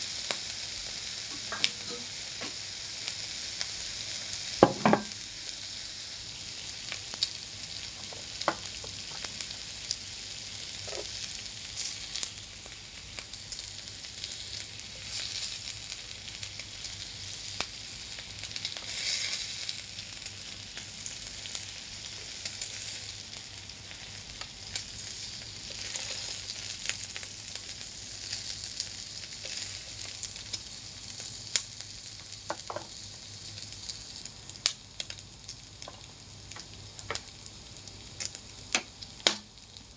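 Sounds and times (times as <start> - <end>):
meat sizzling on grill: 0.0 - 39.9.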